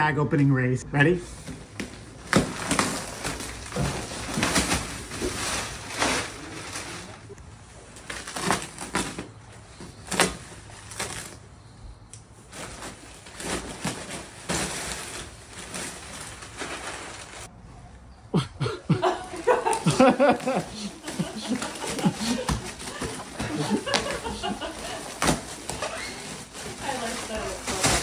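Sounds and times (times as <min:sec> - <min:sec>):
plastic wrapping tearing and crinkling: 0:01.2 - 0:11.5, 0:12.3 - 0:17.5, 0:19.3 - 0:28.0
wood shavings rustling: 0:01.2 - 0:17.6, 0:18.9 - 0:28.0.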